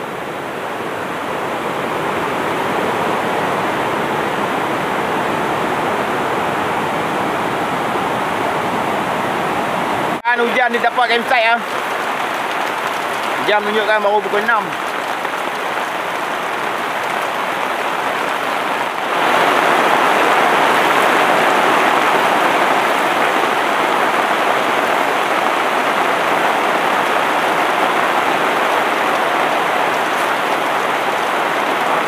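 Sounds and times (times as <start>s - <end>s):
heavy rain on a tarp: 0.0s - 32.0s
river rushing: 0.0s - 32.0s.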